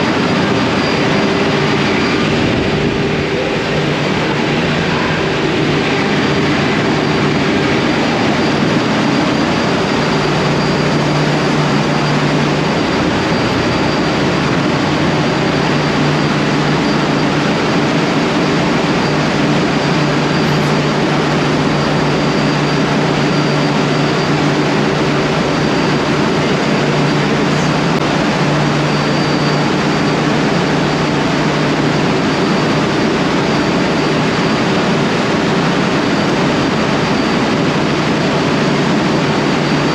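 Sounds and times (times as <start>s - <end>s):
engine room machinery drone: 0.0s - 39.9s.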